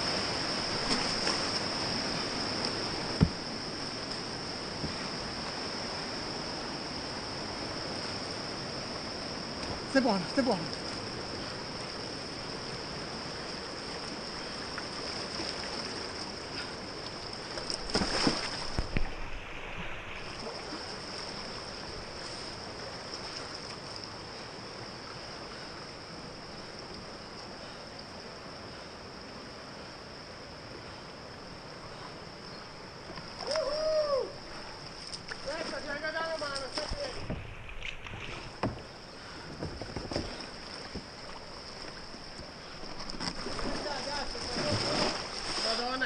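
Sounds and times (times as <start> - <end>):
paddle splashes: 0.0 - 6.2, 7.5 - 27.9, 31.7 - 46.0
river water rushing: 0.0 - 46.0.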